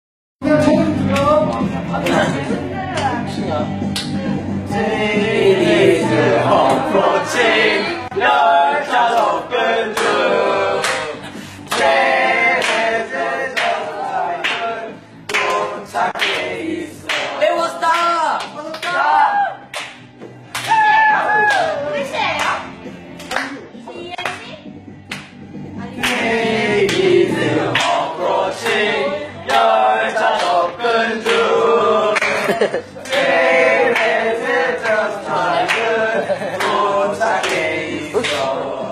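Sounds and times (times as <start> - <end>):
group of voices singing unaccompanied: 0.4 - 19.6, 25.1 - 38.9.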